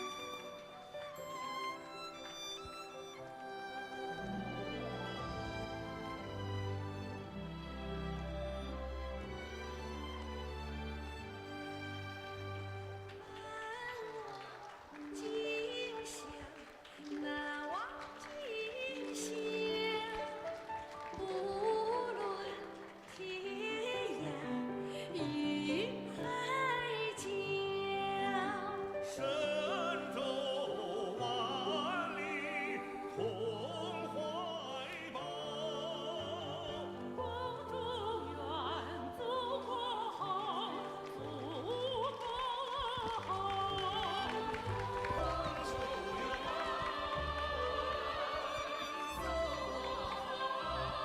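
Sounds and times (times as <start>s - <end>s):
operatic singing with vibrato: 0.0s - 12.6s, 13.2s - 51.0s
musical accompaniment: 0.0s - 51.0s.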